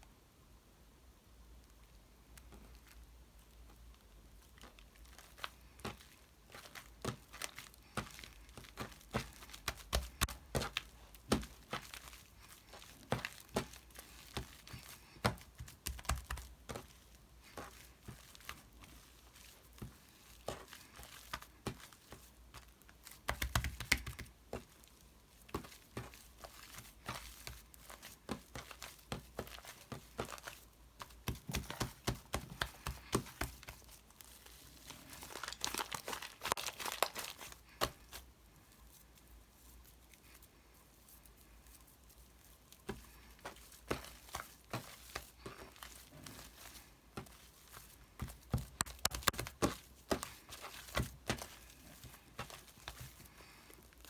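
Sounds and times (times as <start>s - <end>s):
crinkling and crackling with clicks: 1.5s - 54.0s.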